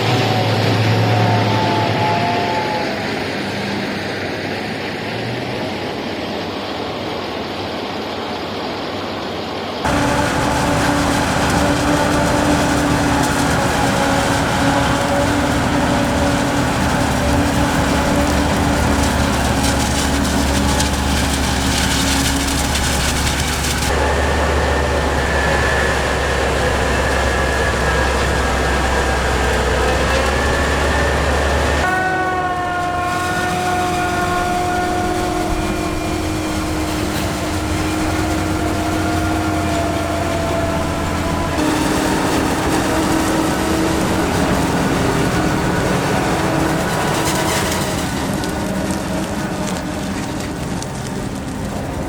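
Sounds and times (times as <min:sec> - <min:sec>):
heavy farm machinery running: 0:00.0 - 0:52.0.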